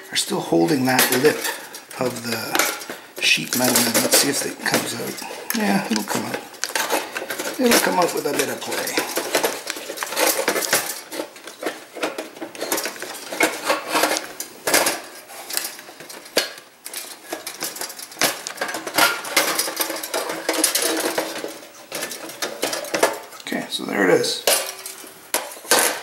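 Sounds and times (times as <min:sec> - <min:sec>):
metal shell rattling and clanking: 0:00.6 - 0:23.4, 0:24.4 - 0:26.0.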